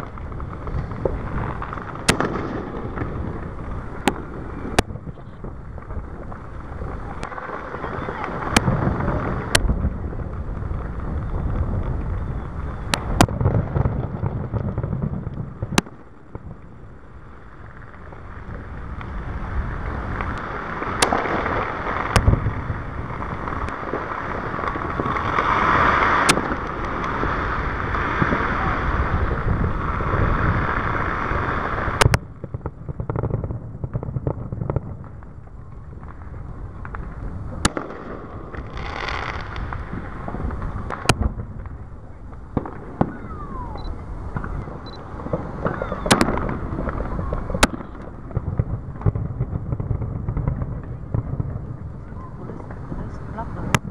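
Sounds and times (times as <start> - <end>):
continuous low rumble: 0.0 - 53.9
fireworks bursting with sharp bangs: 0.0 - 53.9.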